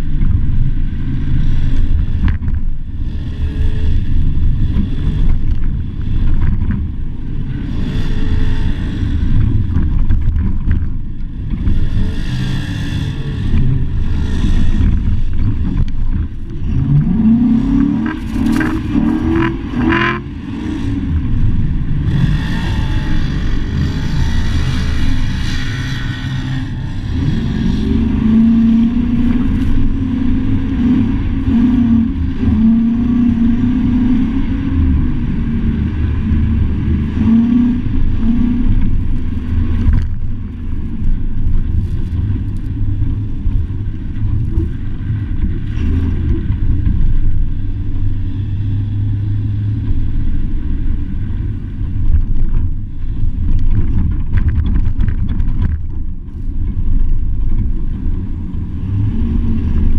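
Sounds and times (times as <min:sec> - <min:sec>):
truck engine rumble: 0:00.0 - 0:59.9.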